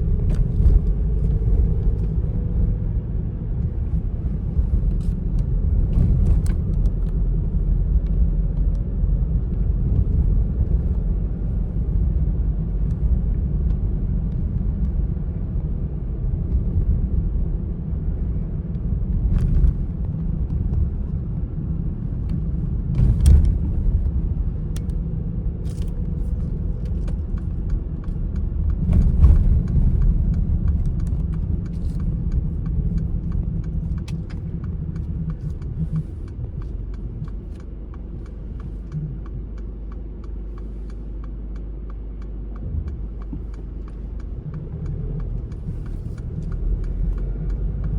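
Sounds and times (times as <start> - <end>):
car engine and tyres rumbling: 0.0 - 47.9.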